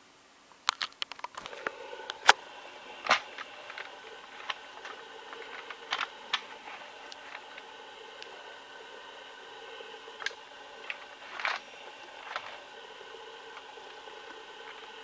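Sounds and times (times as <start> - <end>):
vacuum cleaner motor hum: 1.4 - 15.0.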